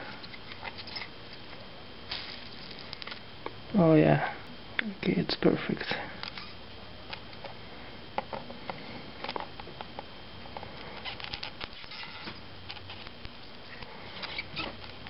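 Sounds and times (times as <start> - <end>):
soldering flux crackling and popping: 0.1 - 3.8, 5.8 - 15.0.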